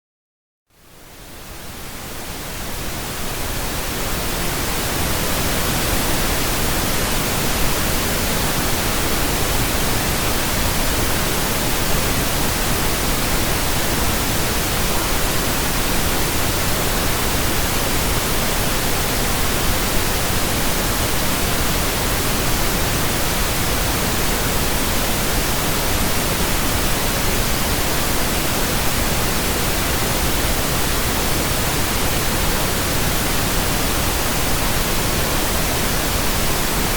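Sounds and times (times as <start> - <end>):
pink noise hiss: 0.7 - 36.9.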